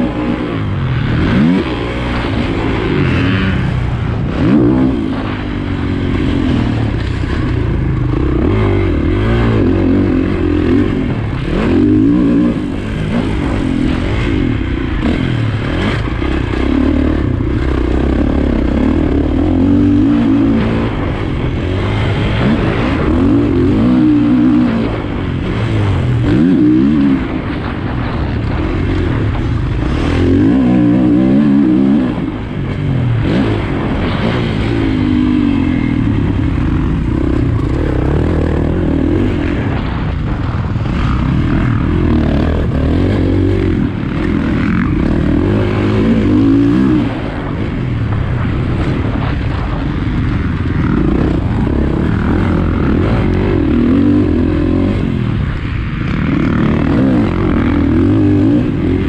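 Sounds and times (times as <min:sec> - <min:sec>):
motocross bike engine revving: 0:00.0 - 0:59.0
rough wind noise: 0:00.0 - 0:59.0.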